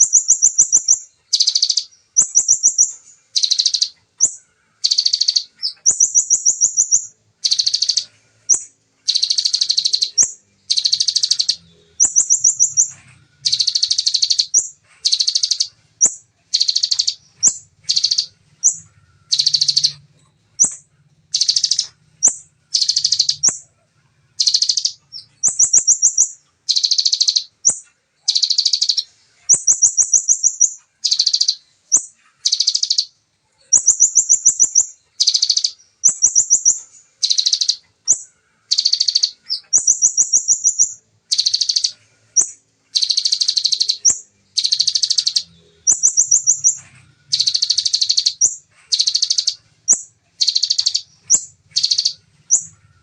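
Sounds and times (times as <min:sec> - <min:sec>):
bird song high rapid bursts: 0:00.0 - 0:53.0.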